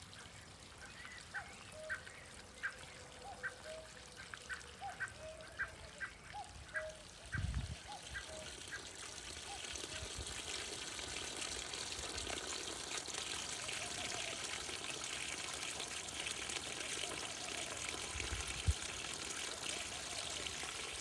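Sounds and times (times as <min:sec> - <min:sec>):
stream trickling: 0:00.0 - 0:21.0.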